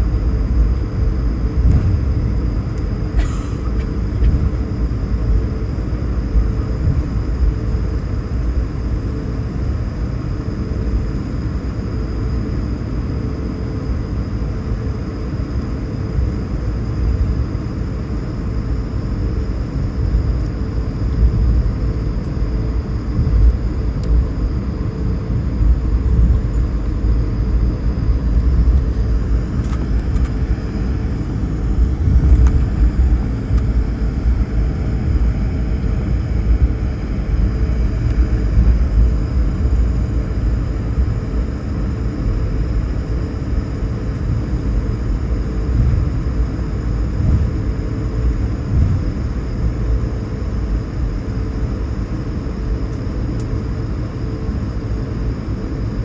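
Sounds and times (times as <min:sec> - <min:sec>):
faint steady whine: 0:00.0 - 0:56.0
jet engines idling rumble: 0:00.0 - 0:56.0.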